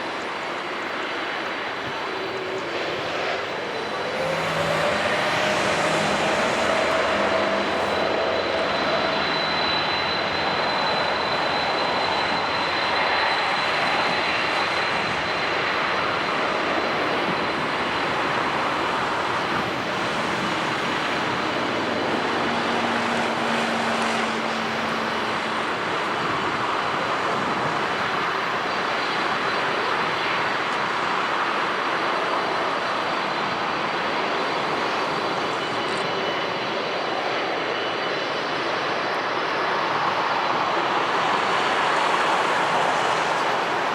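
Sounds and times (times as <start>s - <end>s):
high jet engine whine: 0.0s - 43.9s
jet engines roaring: 0.0s - 43.9s.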